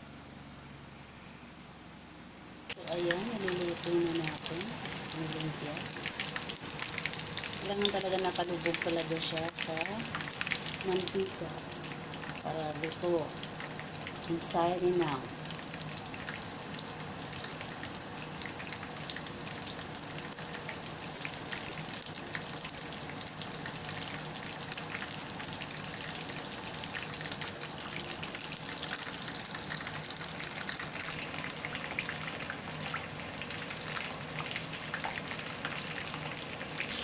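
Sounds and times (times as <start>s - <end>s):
food deep-frying in oil: 2.7s - 37.0s.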